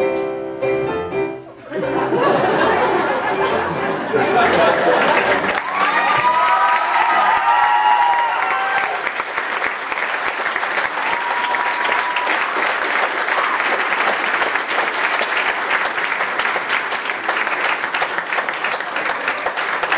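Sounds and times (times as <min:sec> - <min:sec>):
crowd applauding: 0:02.1 - 0:19.9.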